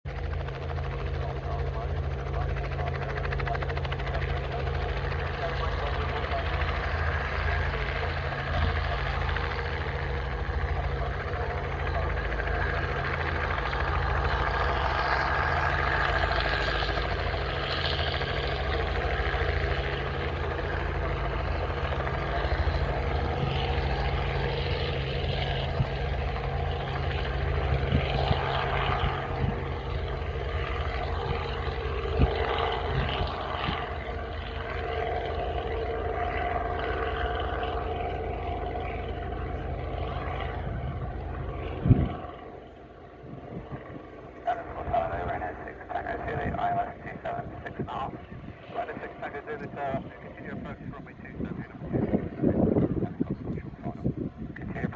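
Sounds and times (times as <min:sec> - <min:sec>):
aircraft engines humming: 0:00.0 - 0:54.9.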